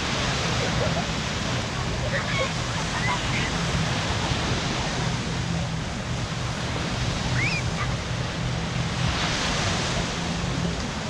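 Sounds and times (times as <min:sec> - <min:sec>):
surf: 0:00.0 - 0:11.0.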